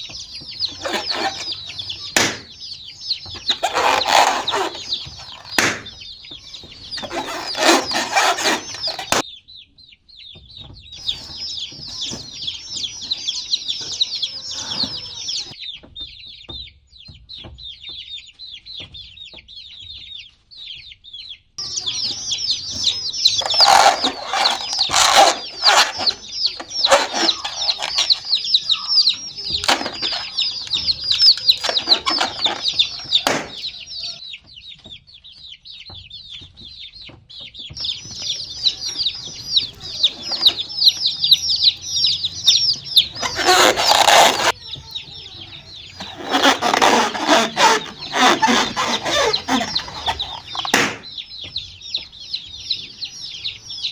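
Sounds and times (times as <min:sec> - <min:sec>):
baby chicks peeping: 0:00.0 - 0:53.9.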